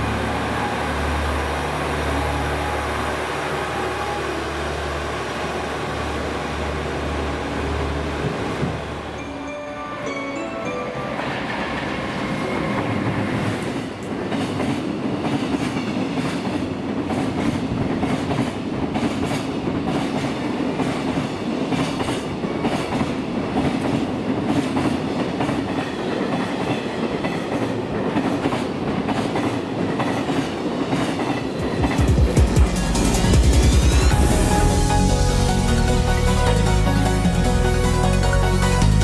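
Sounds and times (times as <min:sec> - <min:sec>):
train running hum: 0:00.0 - 0:39.0.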